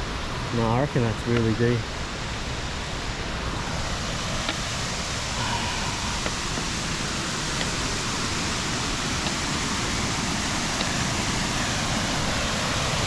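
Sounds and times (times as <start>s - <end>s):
small waterfall pouring: 0.4s - 13.0s.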